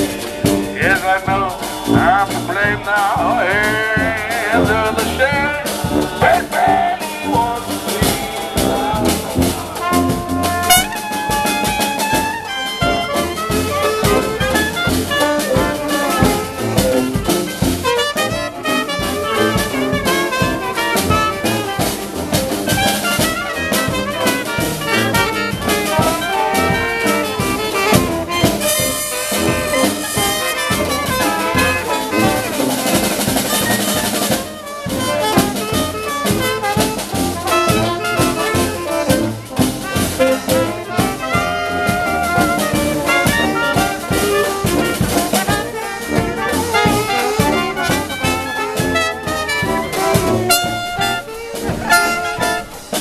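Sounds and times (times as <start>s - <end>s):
jazz band playing: 0.0s - 53.0s.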